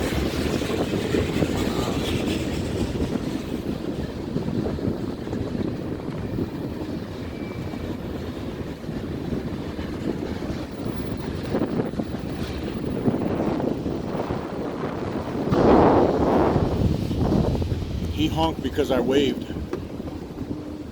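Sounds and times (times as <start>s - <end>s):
train rumbling across bridge: 0.0s - 20.9s.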